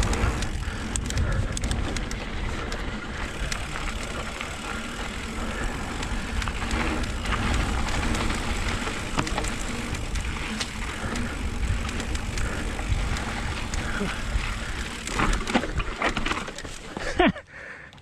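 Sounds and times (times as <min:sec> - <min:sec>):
tyre noise on dirt: 0:00.0 - 0:17.3
bike clicks and rattles: 0:00.0 - 0:18.0.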